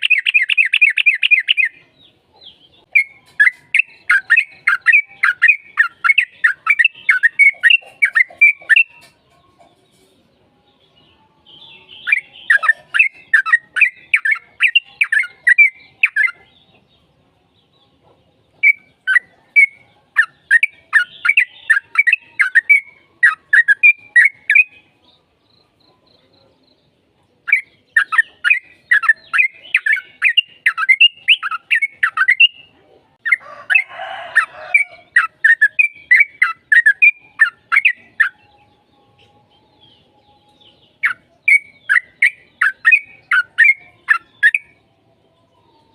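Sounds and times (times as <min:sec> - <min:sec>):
bird chirping in bursts: 0:00.0 - 0:10.1, 0:11.4 - 0:17.8, 0:18.4 - 0:44.9.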